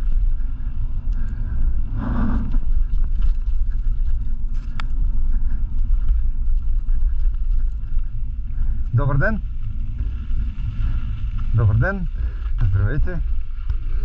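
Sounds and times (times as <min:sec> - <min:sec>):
bike rattles and clicks: 0:00.0 - 0:14.0
wind and tyres rumbling on trail: 0:00.0 - 0:14.0.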